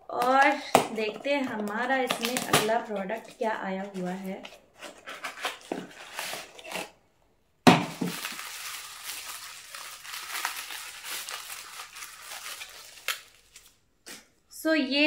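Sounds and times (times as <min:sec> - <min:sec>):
paper packing wrap crinkling: 0:01.2 - 0:06.9, 0:07.8 - 0:14.3.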